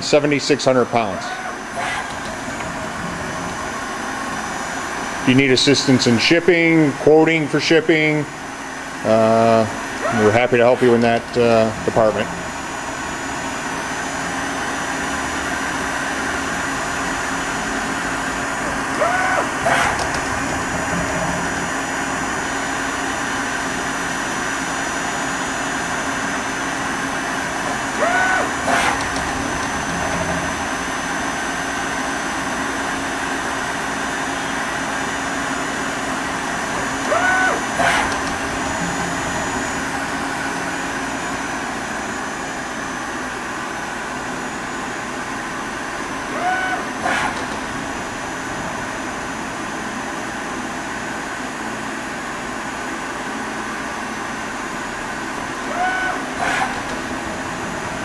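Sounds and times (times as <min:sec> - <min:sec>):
rising and falling machine whine: 0:00.0 - 0:06.5, 0:07.9 - 0:52.6, 0:54.2 - 0:58.0
machine hum: 0:00.0 - 0:58.0.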